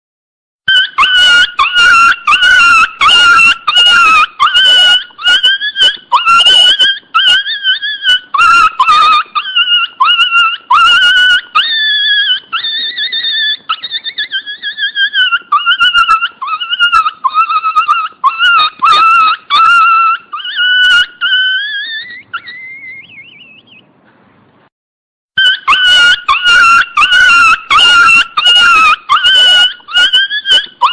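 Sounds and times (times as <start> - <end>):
puppy squealing cries: 0.7 - 23.7, 25.4 - 30.9.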